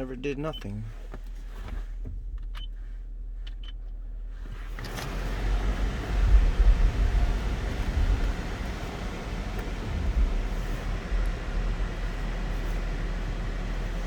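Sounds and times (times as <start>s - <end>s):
low cabin hum: 0.0s - 14.0s
vehicle rumble and hiss: 0.0s - 14.0s.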